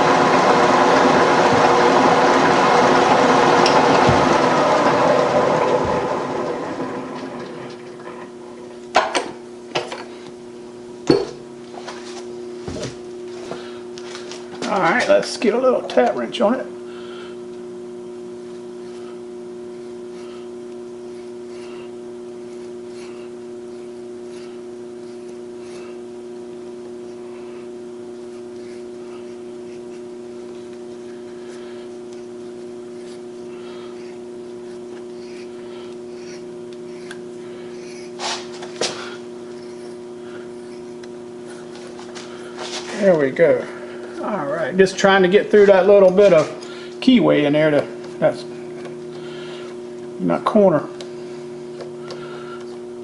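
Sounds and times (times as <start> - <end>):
shop machine hum: 0.0 - 53.0.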